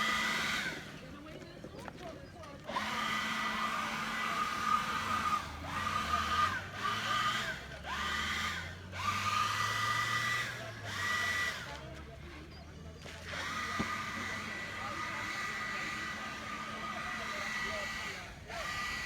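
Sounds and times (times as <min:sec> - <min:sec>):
power blower whining: 0:00.0 - 0:01.0, 0:02.6 - 0:12.1, 0:13.0 - 0:19.0.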